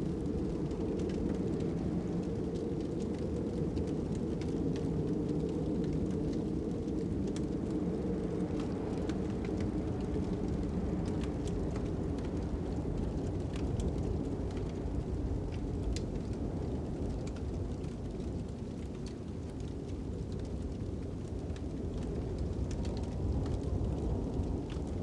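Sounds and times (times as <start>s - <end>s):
fire crackling and popping: 0.0s - 25.0s
low rumble of wind: 0.0s - 25.0s.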